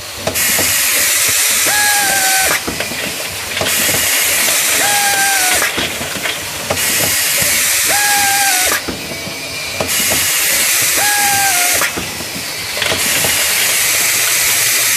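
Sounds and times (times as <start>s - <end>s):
steady air hiss: 0.0s - 14.9s.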